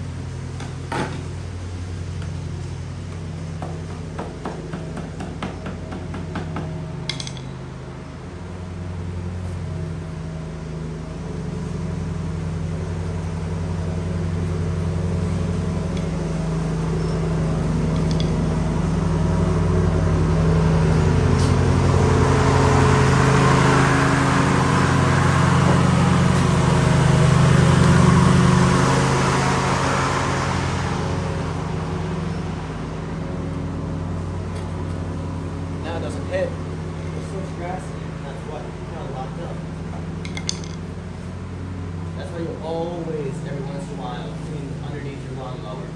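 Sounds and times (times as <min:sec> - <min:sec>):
riding lawn mower engine: 0:00.0 - 0:45.9.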